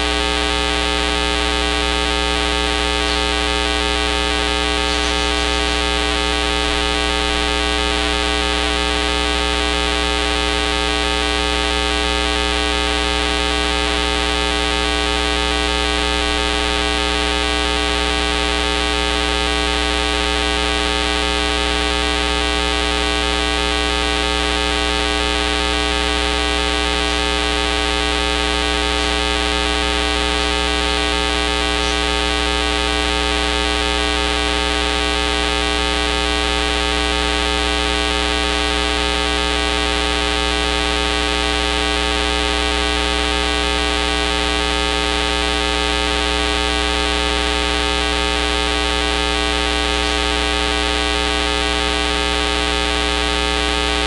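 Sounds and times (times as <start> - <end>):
steady electrical buzz: 0.0 - 54.0.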